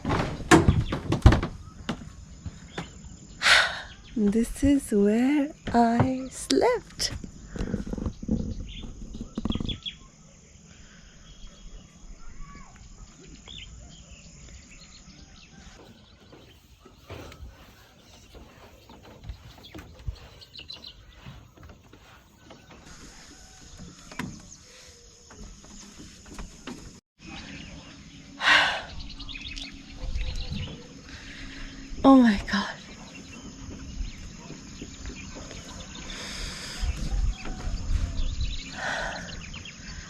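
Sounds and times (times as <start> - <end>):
small birds chirping: 0.1 - 40.0.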